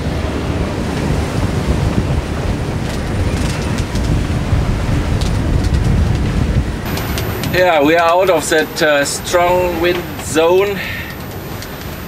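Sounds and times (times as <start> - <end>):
sea water rushing along hull: 0.0 - 12.0
wind buffeting microphone: 0.0 - 12.0.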